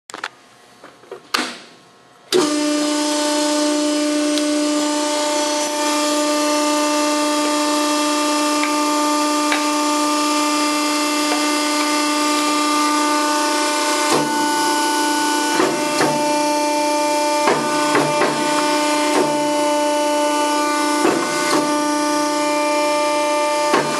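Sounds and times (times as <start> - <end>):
hydraulic machine humming: 2.3 - 23.9.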